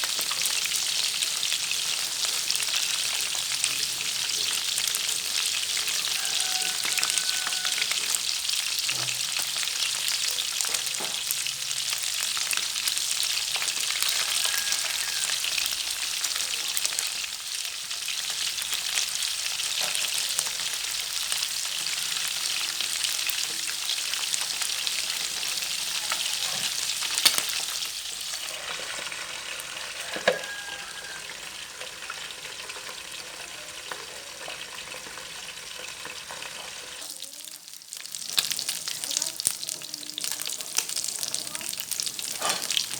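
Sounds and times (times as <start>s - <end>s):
fish frying in hot oil: 0.0s - 42.9s.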